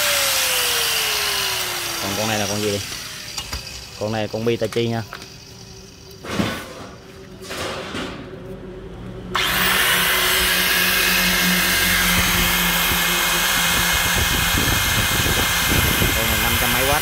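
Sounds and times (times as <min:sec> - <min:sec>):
angle grinder running: 0:00.0 - 0:06.2, 0:09.3 - 0:17.0.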